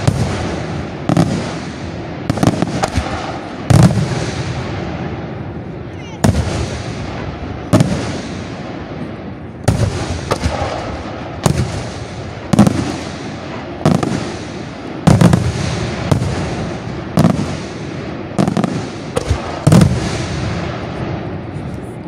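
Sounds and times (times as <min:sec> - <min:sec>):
rolling echo: 0:00.0 - 0:22.0.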